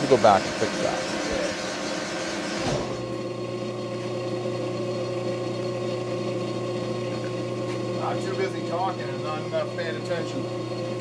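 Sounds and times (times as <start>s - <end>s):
metal lathe humming and whining: 0.0s - 11.0s.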